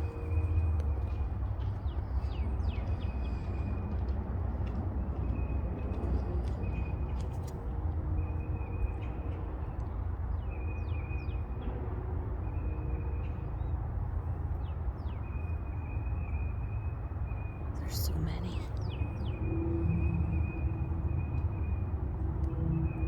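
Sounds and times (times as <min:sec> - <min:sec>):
constant low rumble: 0:00.0 - 0:23.0.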